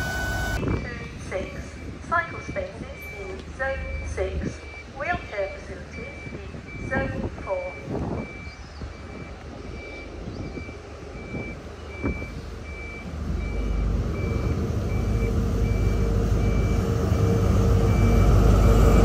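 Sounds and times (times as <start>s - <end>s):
train engine rumble: 0.0s - 19.0s.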